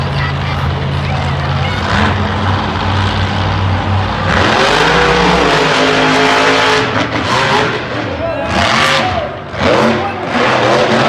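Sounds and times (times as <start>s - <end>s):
truck engines revving hard: 0.0s - 11.0s.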